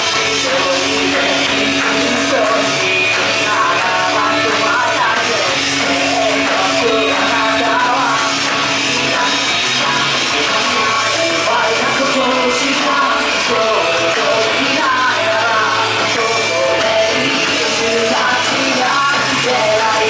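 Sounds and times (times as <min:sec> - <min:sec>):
loud amplified backing music: 0:00.0 - 0:20.0.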